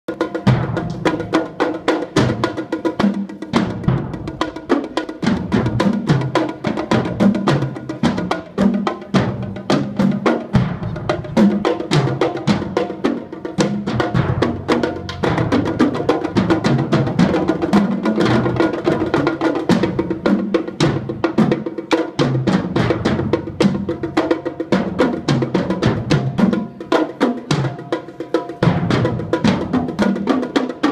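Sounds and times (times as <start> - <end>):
percussion ensemble playing: 0.1 - 30.9.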